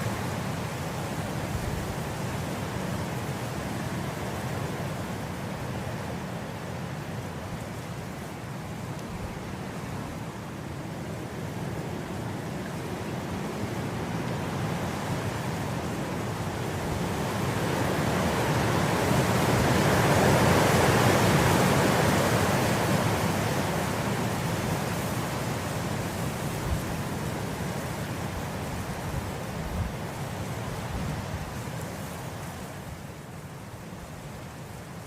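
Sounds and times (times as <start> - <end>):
wind blowing through grass: 0.0 - 35.0.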